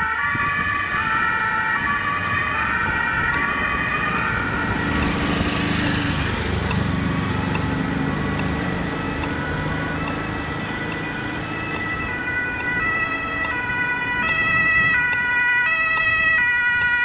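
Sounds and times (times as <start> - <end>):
ambulance two-tone siren: 0.0 - 17.0
road traffic passing: 0.0 - 17.0.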